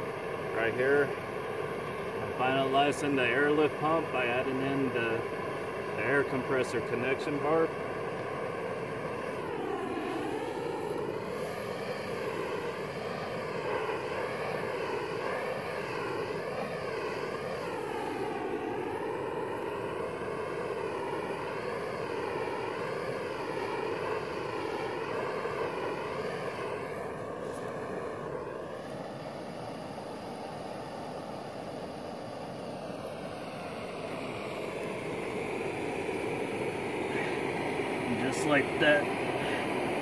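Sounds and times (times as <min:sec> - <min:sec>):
propane torch hissing: 0:00.0 - 0:40.0.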